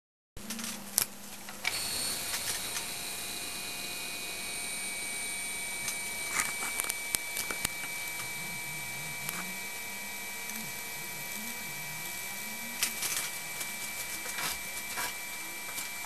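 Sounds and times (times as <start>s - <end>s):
compressor whine: 1.5s - 16.0s.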